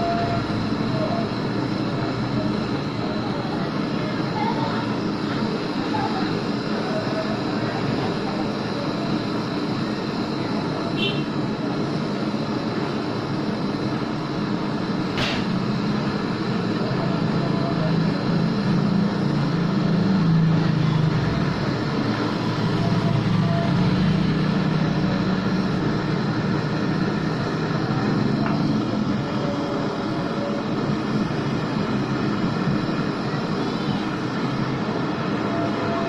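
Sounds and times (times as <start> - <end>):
torch flame burning: 0.0 - 36.0.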